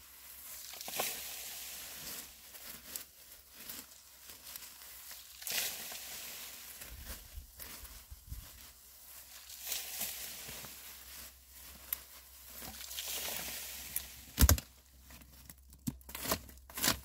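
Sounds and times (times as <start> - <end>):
hands tossing dry leaves and twigs: 0.0 - 17.0.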